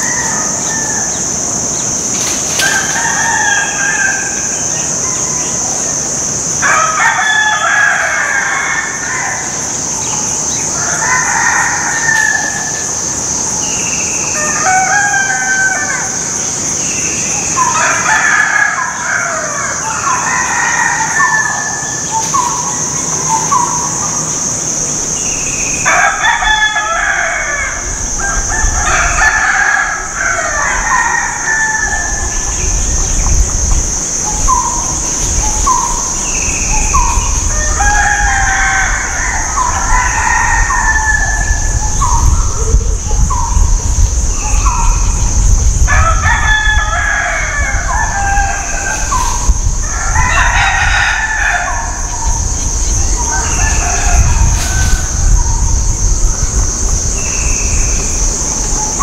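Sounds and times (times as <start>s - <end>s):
insects buzzing: 0.0s - 59.0s
roosters crowing: 0.0s - 59.0s.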